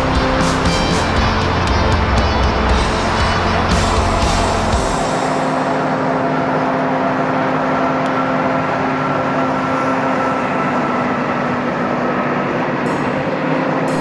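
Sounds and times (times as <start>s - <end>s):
jet engines rushing hum: 0.0s - 14.0s.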